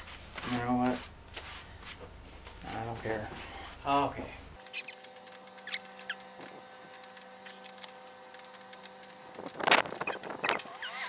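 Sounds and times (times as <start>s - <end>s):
gloved hands handling objects: 0.0s - 10.6s
steady hum: 0.0s - 11.0s.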